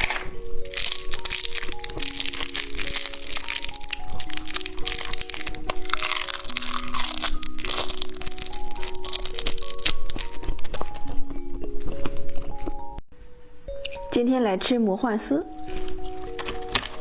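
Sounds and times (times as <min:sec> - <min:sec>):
crunching and chewing candy: 0:00.0 - 0:13.0, 0:15.5 - 0:17.0
background music held notes: 0:00.0 - 0:17.0.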